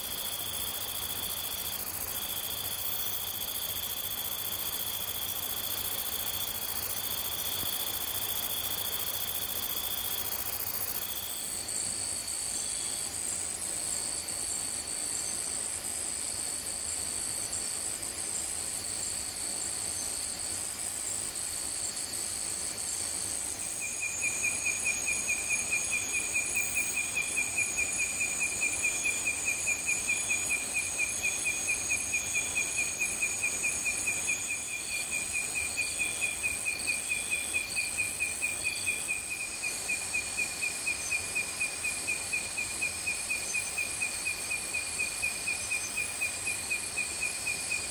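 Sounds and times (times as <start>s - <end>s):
pulsing insect trill: 0.0s - 15.3s, 21.3s - 47.9s
insects chirring: 0.0s - 47.9s.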